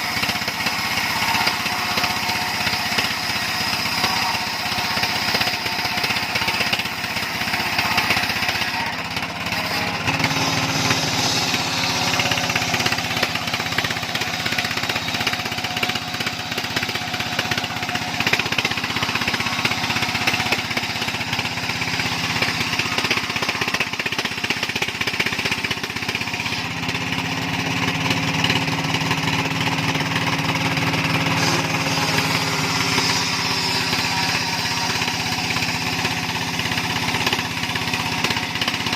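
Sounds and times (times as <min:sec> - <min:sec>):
engine-driven saw humming: 0:00.0 - 0:38.9.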